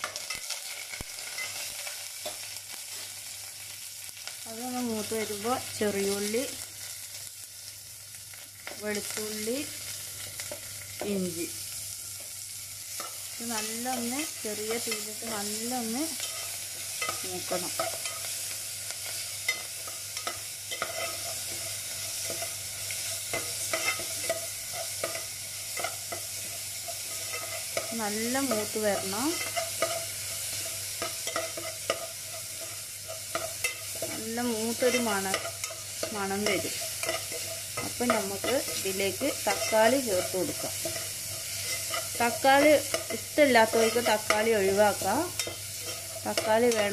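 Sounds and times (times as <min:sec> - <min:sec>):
aromatics sizzling in hot oil: 0:00.0 - 0:46.9.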